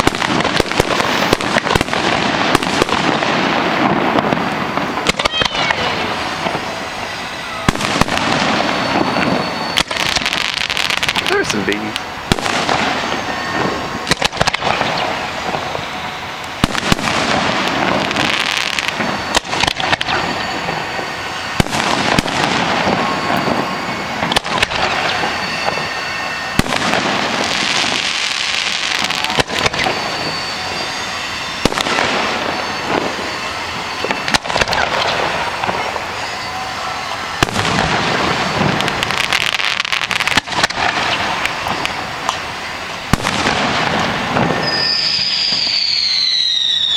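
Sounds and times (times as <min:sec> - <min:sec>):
firework bangs: 0:00.0 - 0:46.9
fireworks hissing and crackling: 0:00.0 - 0:46.9.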